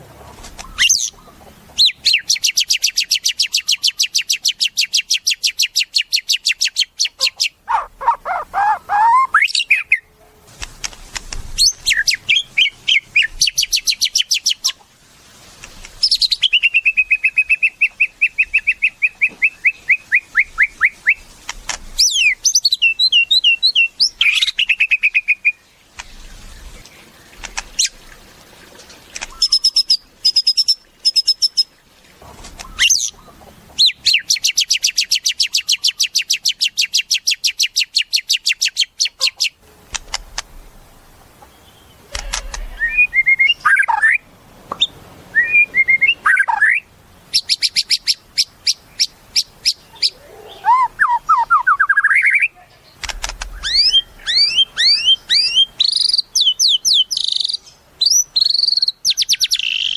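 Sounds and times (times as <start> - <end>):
songbird singing varied phrases: 0.6 - 10.2, 11.6 - 14.8, 16.0 - 28.0, 29.1 - 31.7, 32.6 - 39.6, 41.4 - 59.9.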